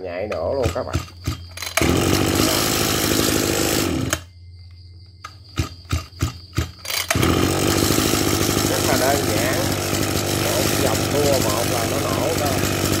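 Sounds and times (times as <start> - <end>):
recoil starter cord pulls: 0.3 - 4.3, 5.2 - 13.0
brush cutter engine running: 0.6 - 4.3, 5.6 - 13.0.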